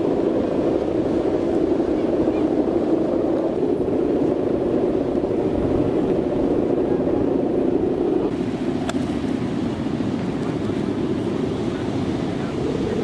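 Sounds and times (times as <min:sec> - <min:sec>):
kite bow droning hum: 0:00.0 - 0:13.0
strong wind: 0:00.0 - 0:13.0.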